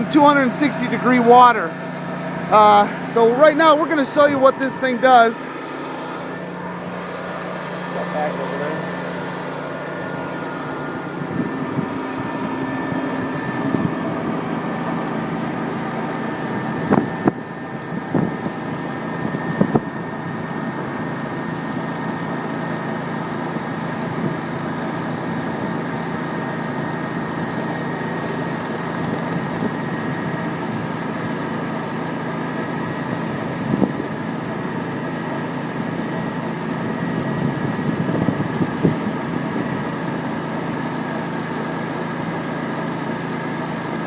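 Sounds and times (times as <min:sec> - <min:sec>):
pressure washer machine drone: 0:00.0 - 0:44.0.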